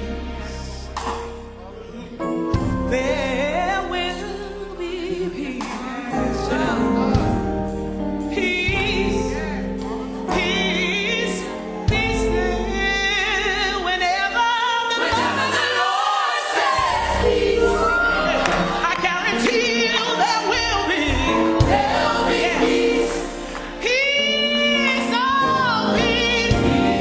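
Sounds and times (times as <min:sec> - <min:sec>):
bass and band accompaniment: 0:00.0 - 0:27.0
voices singing gospel: 0:02.6 - 0:27.0.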